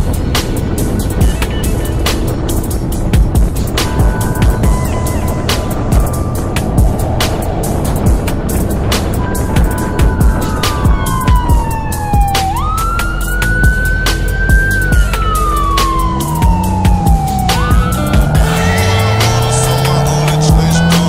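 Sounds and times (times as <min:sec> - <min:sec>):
background music with steady beat: 0:00.0 - 0:21.0
car engine revving: 0:00.0 - 0:21.0
emergency siren wailing: 0:03.8 - 0:21.0.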